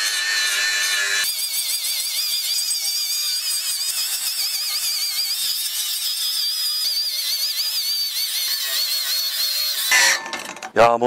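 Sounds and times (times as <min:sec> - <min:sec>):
angle grinder grinding steel: 0:00.0 - 0:10.9.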